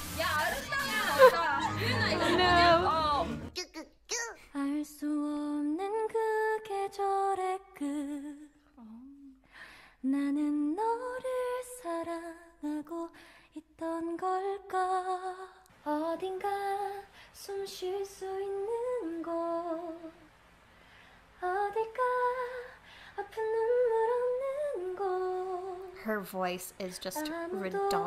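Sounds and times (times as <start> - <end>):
woman singing unaccompanied: 0.1 - 3.5, 4.5 - 9.4, 10.0 - 20.3, 21.4 - 26.0, 26.8 - 28.0.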